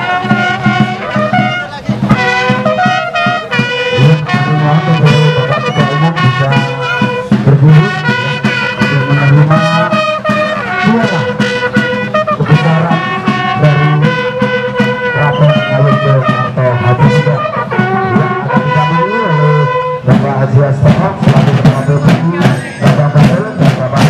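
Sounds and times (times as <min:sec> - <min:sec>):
brass-led instrumental music: 0:00.0 - 0:24.0.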